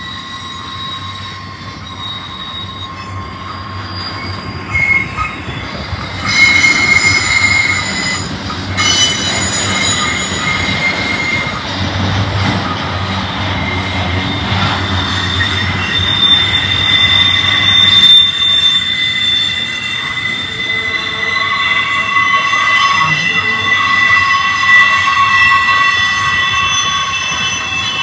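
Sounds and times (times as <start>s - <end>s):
high wheel squeal: 0.0s - 28.0s
train wheels rumbling on rail: 0.0s - 28.0s.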